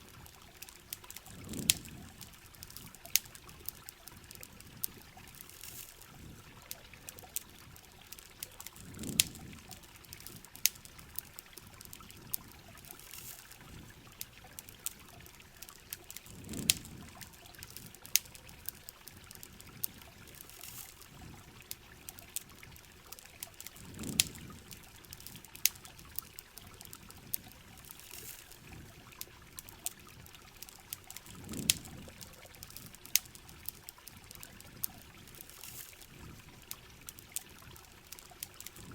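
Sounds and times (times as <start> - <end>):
campfire crackling and popping: 0.0 - 38.9
rain hiss: 0.0 - 38.9.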